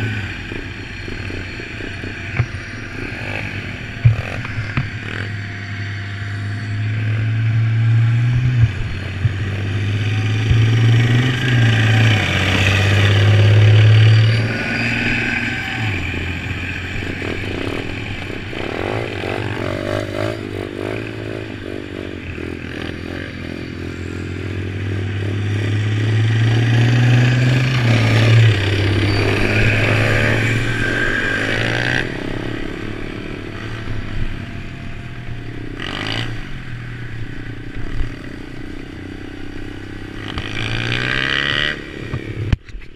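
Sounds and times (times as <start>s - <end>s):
motorbike engine revving: 0.0s - 42.7s.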